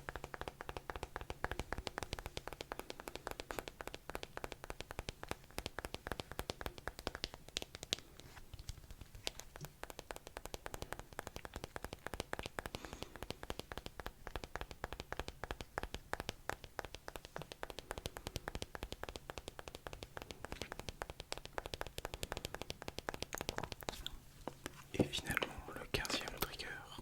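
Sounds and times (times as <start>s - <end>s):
rapid clicking and tapping: 0.0s - 27.0s.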